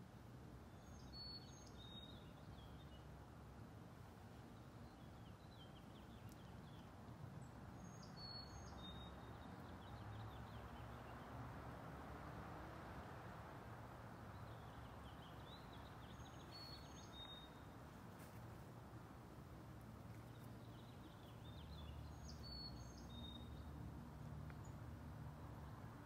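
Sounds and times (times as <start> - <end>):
songbird singing: 0.1 - 12.4, 13.8 - 26.0.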